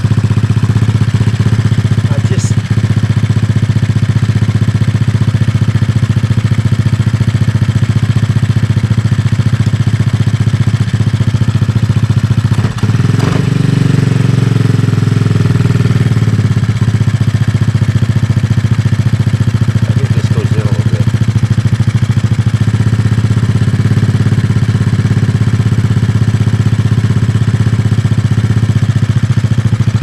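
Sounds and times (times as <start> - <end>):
small motorbike engine idling: 0.0 - 30.0.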